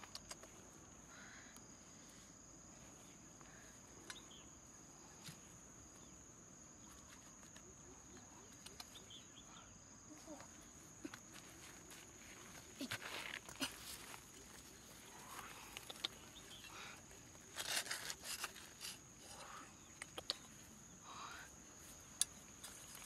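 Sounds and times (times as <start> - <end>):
insect song high tone: 0.0 - 23.0.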